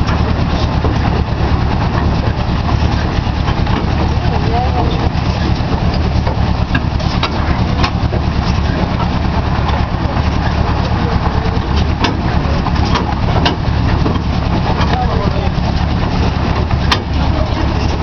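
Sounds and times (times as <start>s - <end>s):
sharp knocks and rattles: 0.0s - 18.0s
vehicle engine running: 0.0s - 18.0s.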